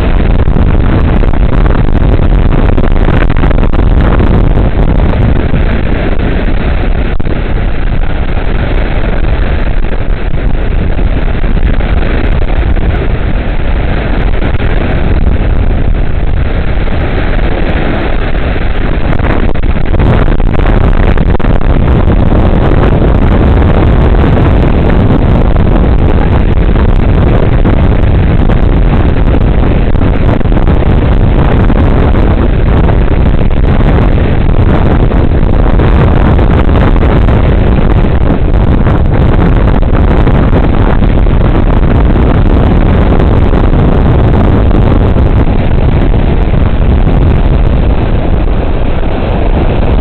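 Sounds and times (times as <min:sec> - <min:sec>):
lake waves breaking on shore: 0:00.0 - 0:50.0
wind buffeting microphone: 0:00.0 - 0:50.0.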